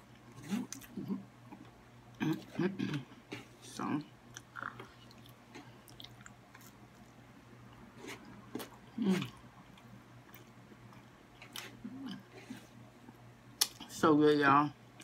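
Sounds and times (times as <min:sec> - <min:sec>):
person chewing food: 0:00.0 - 0:03.6, 0:04.2 - 0:12.8.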